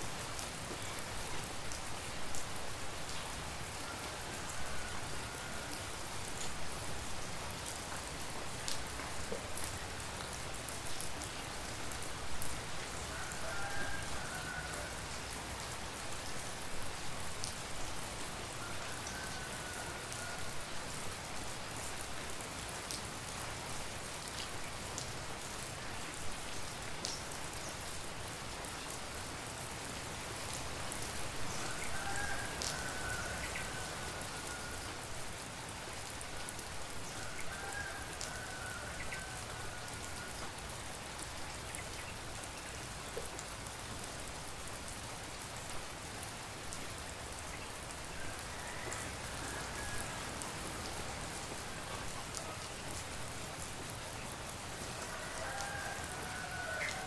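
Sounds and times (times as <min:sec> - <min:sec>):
raindrops ticking on surfaces: 0:00.0 - 0:57.0
steady rain falling: 0:00.0 - 0:57.0.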